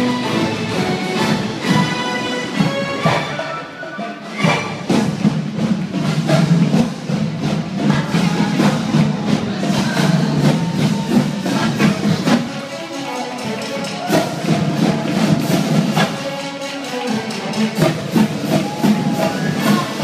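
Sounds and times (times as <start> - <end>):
upbeat parade music: 0.0 - 20.0.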